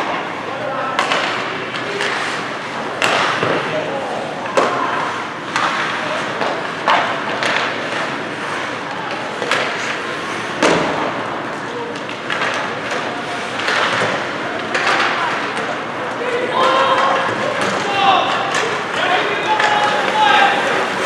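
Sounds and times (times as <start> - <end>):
crowd din with voices: 0.0 - 21.0
hockey sticks and puck cracking: 0.9 - 21.0.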